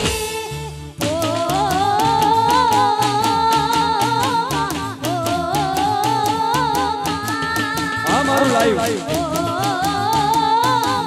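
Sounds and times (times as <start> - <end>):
bass line: 0.0 - 11.0
quick drum beat: 0.0 - 11.0
person singing long notes: 1.1 - 11.0.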